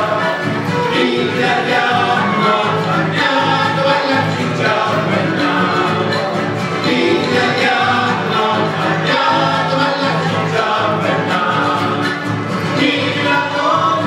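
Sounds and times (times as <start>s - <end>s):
sung folk song with instruments: 0.0s - 14.0s.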